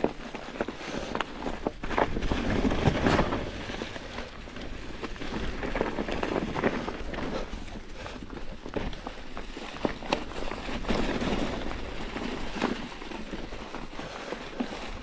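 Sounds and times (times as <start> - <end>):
bike rattling over bumps: 0.0 - 15.0
bike tyres crackling over dry leaves: 0.0 - 15.0.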